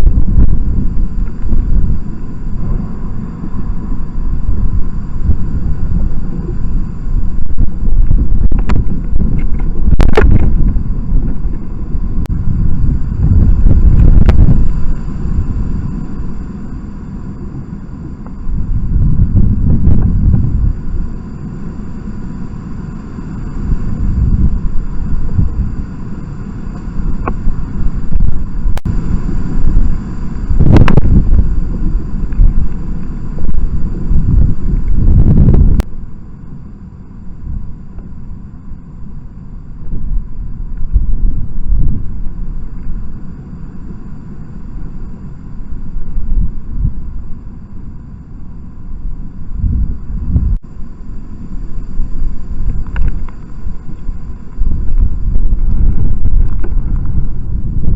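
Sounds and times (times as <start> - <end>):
wind buffeting microphone: 0.0 - 22.2, 22.9 - 35.9, 39.8 - 44.0, 45.6 - 47.4, 48.9 - 57.9.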